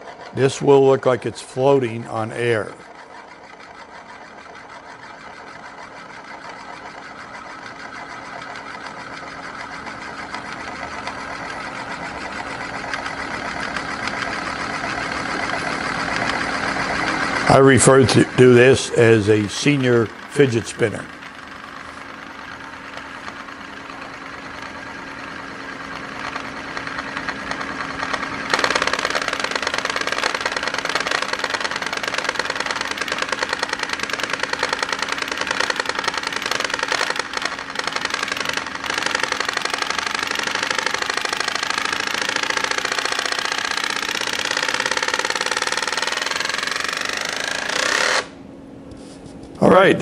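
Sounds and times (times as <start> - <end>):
spinning disc whirring on glass: 0.0 - 48.4.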